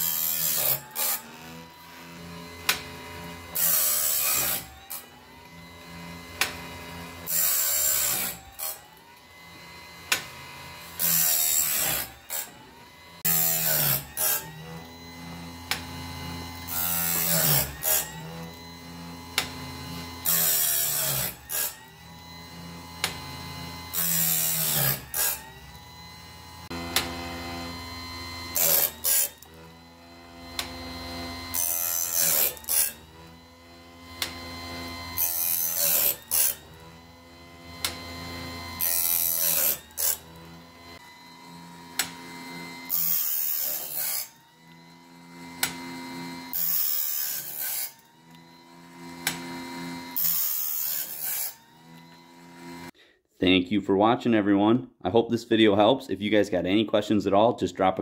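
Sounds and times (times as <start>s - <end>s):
grinding wheel whining: 0.0s - 53.0s.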